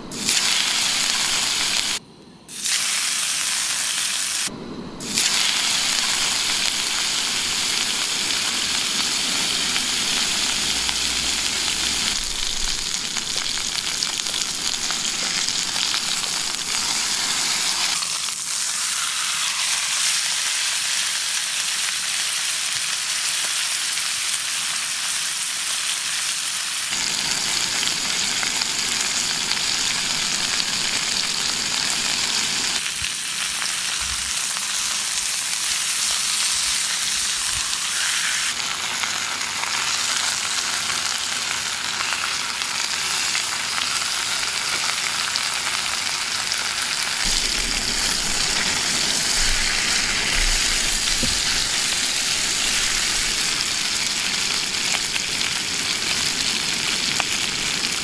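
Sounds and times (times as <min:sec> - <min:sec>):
food sizzling in a frying pan: 0:00.2 - 0:58.0.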